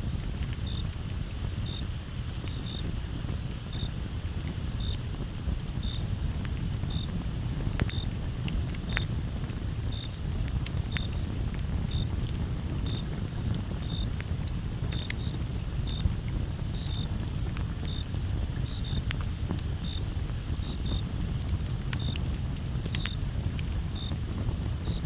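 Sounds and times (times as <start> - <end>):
campfire crackling and popping: 0.0 - 25.0
crickets chirping: 0.0 - 25.0.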